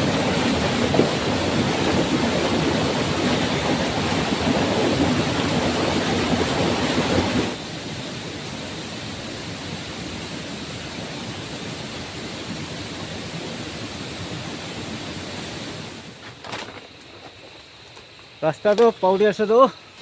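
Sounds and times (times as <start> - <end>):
steady rushing noise: 0.0 - 16.3.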